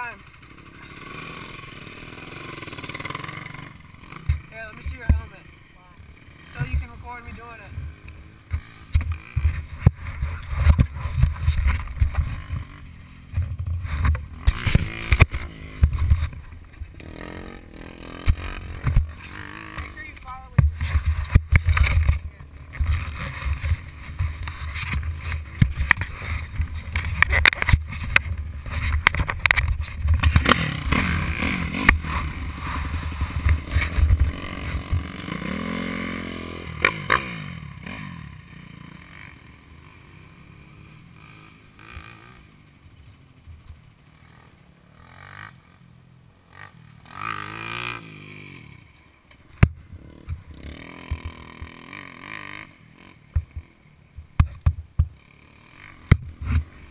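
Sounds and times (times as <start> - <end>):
dirt bike engines running: 0.0 - 56.9
dirt bike revving: 0.0 - 56.9.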